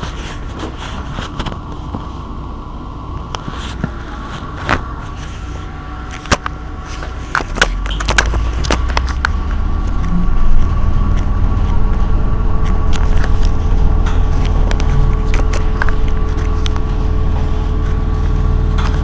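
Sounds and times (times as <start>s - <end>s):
electric bus high whine: 0.0s - 19.0s
low hum: 0.0s - 19.0s.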